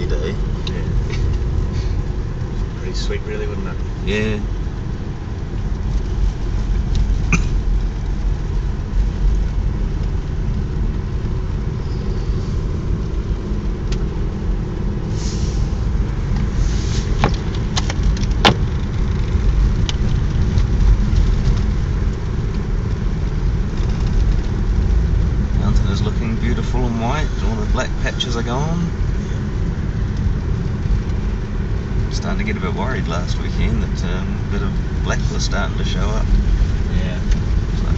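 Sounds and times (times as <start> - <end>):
car engine and tyres rumbling: 0.0 - 37.9.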